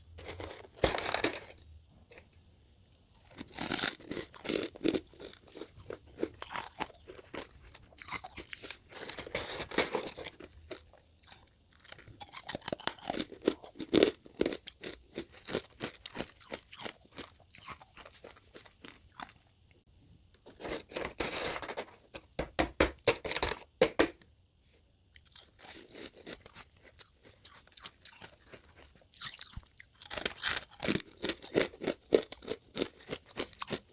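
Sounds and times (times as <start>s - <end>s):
frost being chewed crunching: 0.2s - 2.3s, 3.1s - 19.5s, 25.1s - 33.9s.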